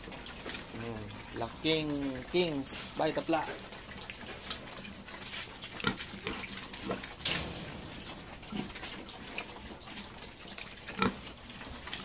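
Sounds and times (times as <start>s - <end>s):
pigs grunting: 0.0s - 12.0s.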